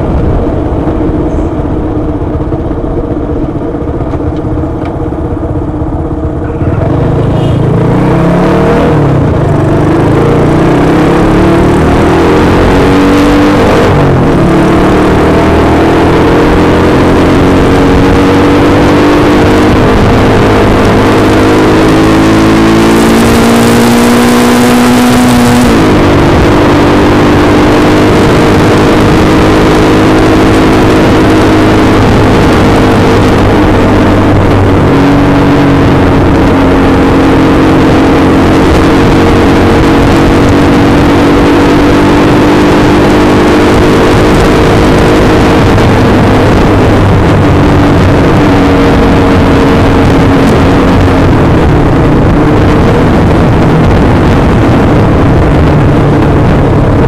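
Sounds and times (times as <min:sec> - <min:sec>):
motorcycle engine at full throttle: 0:00.0 - 0:57.0.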